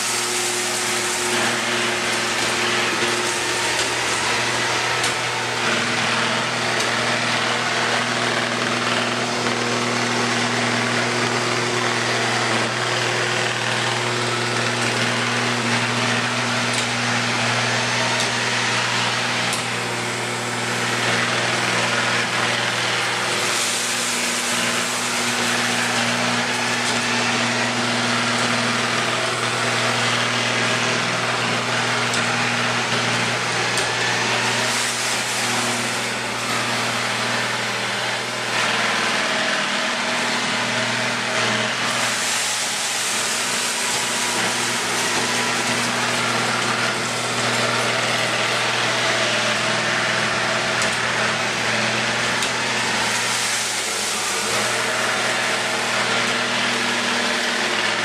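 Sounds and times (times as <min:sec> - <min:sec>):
robot vacuum cleaner whirring: 0:00.0 - 0:58.0.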